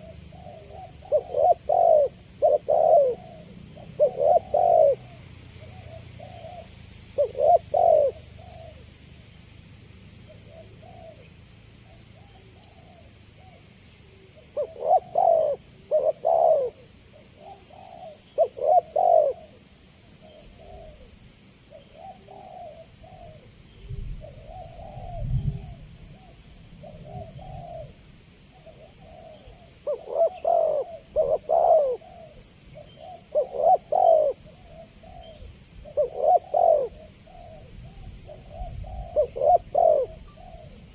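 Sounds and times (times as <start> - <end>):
dove cooing: 0.0 - 8.9, 10.3 - 11.3, 11.9 - 23.5, 24.1 - 40.9.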